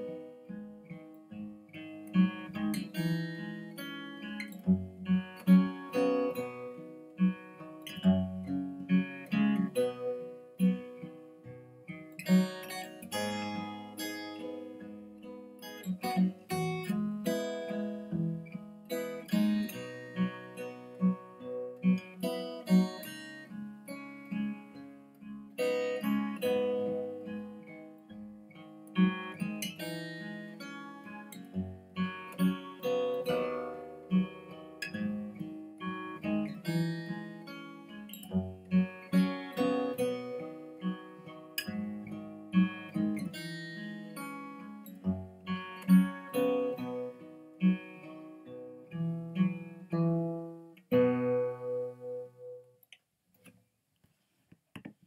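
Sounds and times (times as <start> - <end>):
solo acoustic guitar: 0.0 - 55.0.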